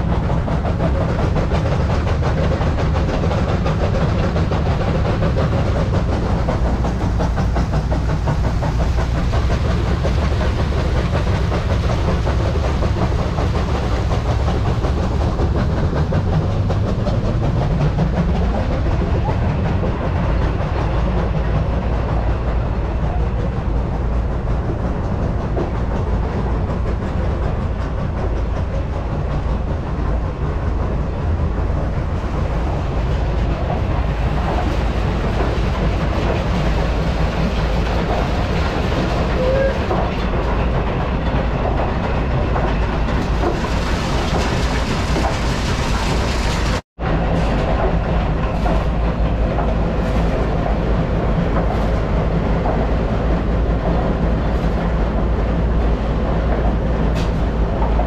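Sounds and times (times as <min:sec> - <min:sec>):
mill machinery rumble and clatter: 0:00.0 - 0:58.0.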